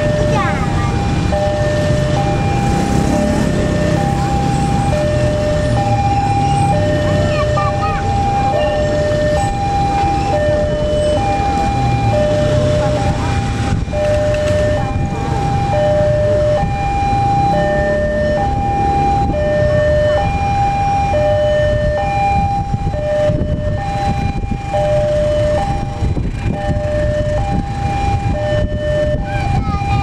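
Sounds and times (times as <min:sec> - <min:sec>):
level crossing two-tone alarm: 0:00.0 - 0:30.0
traffic rumble: 0:00.0 - 0:30.0.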